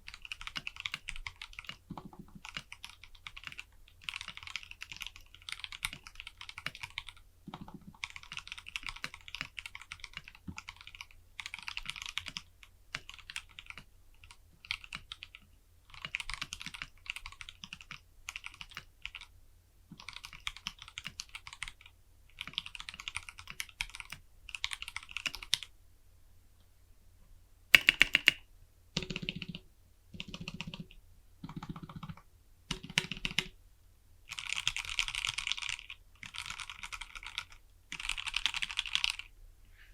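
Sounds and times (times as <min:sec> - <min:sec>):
mechanical keyboard typing: 0:00.1 - 0:19.3, 0:20.0 - 0:25.7, 0:27.8 - 0:28.4, 0:29.0 - 0:29.6, 0:30.2 - 0:33.6, 0:34.3 - 0:39.3.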